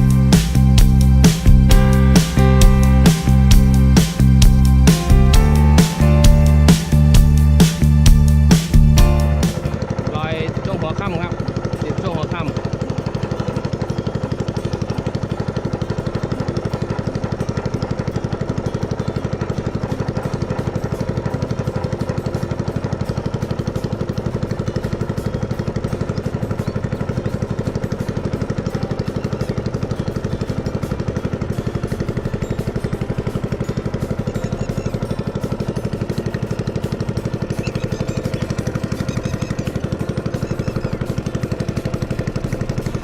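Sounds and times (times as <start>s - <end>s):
small boat engine chugging: 0.0s - 43.0s.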